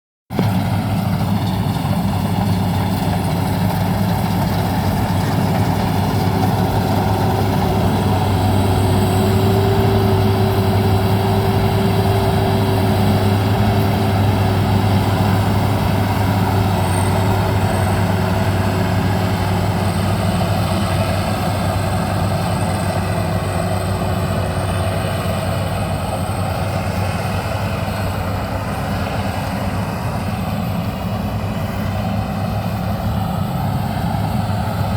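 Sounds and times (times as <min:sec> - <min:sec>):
harvester engine droning: 0:00.3 - 0:34.9.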